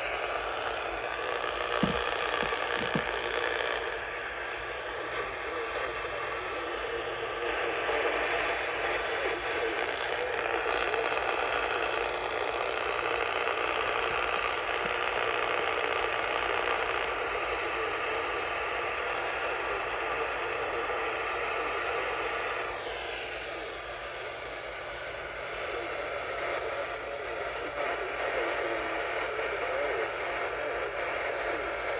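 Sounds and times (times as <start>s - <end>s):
radio static hiss: 0.0s - 31.9s.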